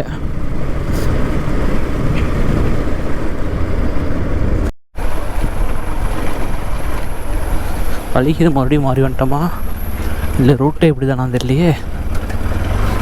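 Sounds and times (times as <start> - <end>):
wind rushing over microphone: 0.0 - 10.4
motorcycle engine and road rumble: 0.0 - 13.0.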